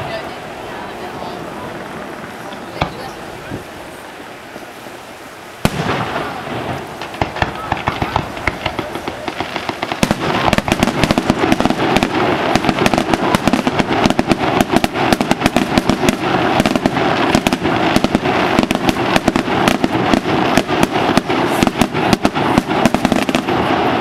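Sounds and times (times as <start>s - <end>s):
fireworks popping and crackling: 0.0s - 24.0s.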